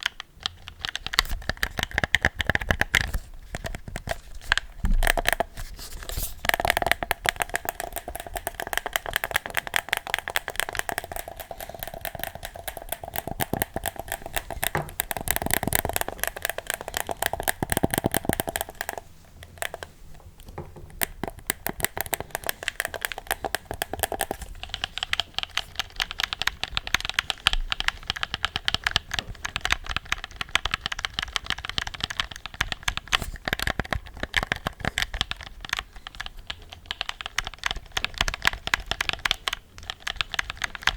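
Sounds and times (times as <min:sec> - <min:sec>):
small clicks and crackles: 0:00.0 - 0:40.9.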